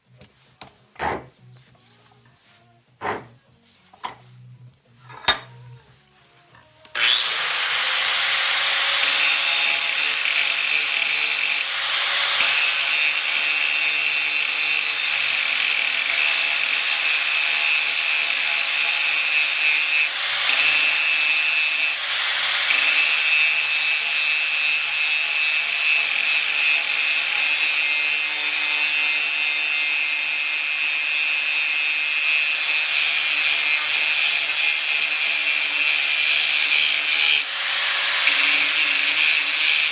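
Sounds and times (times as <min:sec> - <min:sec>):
power tool grinding steel: 0:06.8 - 0:39.9.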